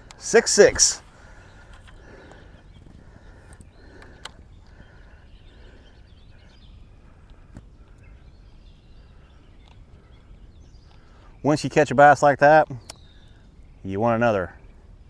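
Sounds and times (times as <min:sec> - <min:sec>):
bird chirps: 0:00.0 - 0:15.0.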